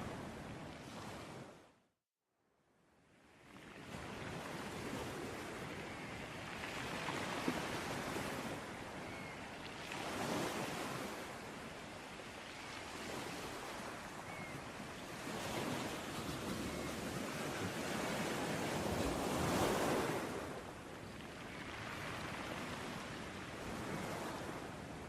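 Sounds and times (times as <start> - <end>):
sea waves washing onto beach: 3.6 - 25.0.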